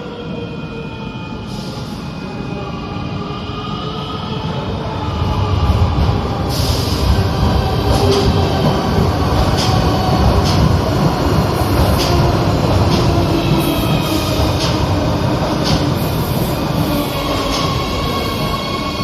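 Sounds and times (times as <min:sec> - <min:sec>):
train rumbling: 0:01.4 - 0:19.0.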